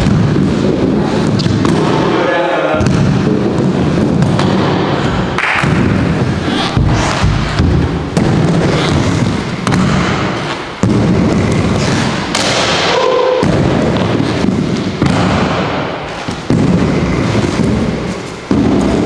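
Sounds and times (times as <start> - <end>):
inline skate wheels rolling on wood: 0.0 - 19.0
skates knocking on ramp: 2.8 - 19.0.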